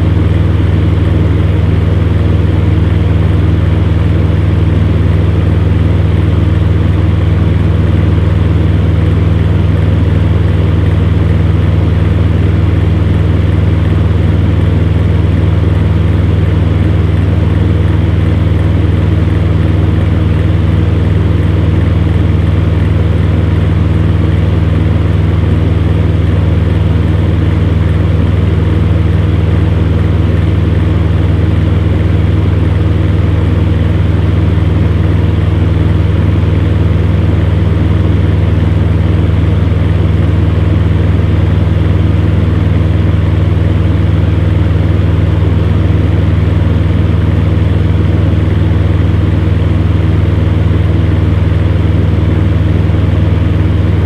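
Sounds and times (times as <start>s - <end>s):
fan heater motor hum: 0.0s - 54.0s.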